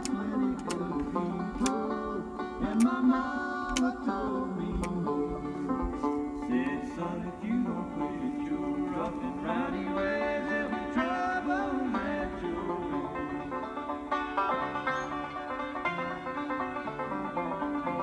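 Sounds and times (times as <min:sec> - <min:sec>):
country music with banjo: 0:00.0 - 0:18.0.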